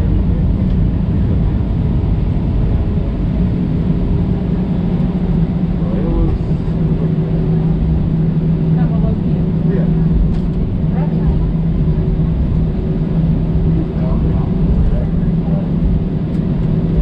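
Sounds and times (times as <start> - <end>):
jet engines rumbling: 0.0 - 17.0
steady engine hum: 0.0 - 17.0.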